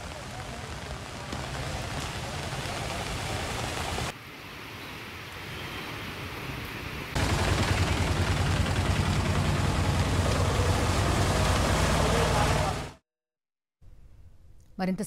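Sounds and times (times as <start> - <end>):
rain and rushing water: 0.0 - 13.0
vehicles driving through floodwater: 0.0 - 13.0.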